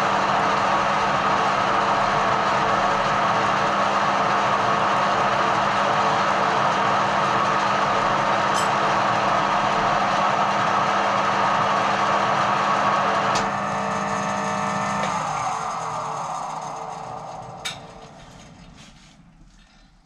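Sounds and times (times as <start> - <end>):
metal lathe running: 0.0 - 19.6
machine winding down: 0.0 - 20.0.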